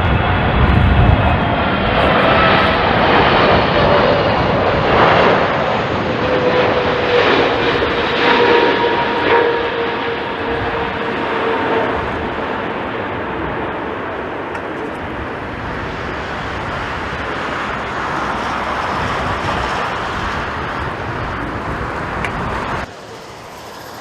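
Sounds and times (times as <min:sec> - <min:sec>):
faint jet engine whine: 0:00.0 - 0:24.0
jet engines rushing: 0:00.0 - 0:24.0.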